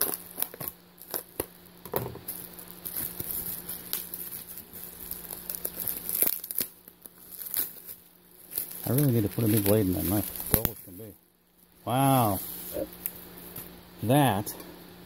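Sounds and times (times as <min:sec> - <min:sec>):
bubble wrap and tape crinkling: 0:00.0 - 0:14.2.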